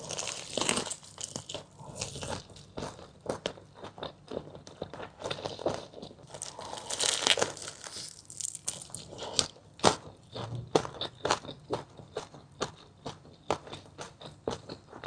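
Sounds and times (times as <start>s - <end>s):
crunchy fried chicken being chewed: 0.0s - 15.0s.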